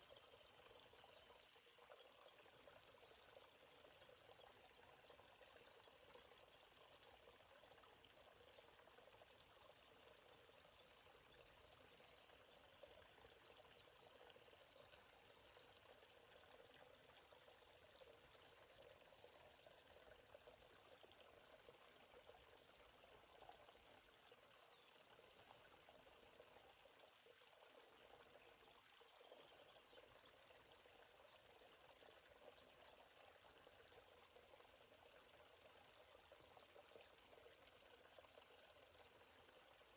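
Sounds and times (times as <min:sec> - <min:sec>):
high-pitched insect chorus: 0:00.0 - 0:25.8, 0:26.8 - 0:39.9
stream trickling: 0:00.0 - 0:39.9.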